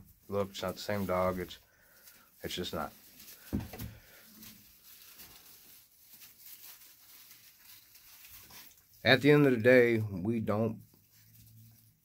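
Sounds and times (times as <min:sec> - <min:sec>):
puppies rustling in wood shavings: 0:00.0 - 0:10.0, 0:10.6 - 0:12.0.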